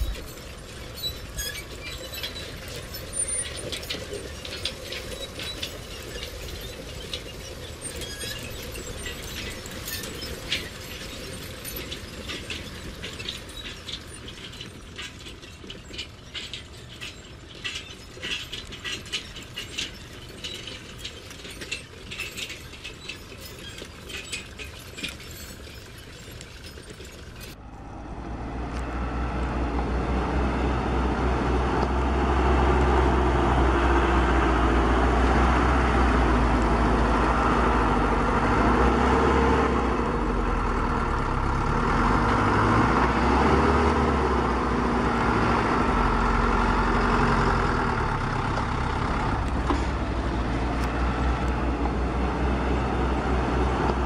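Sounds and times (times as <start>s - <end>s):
toy truck engine rumble: 0.0s - 54.0s.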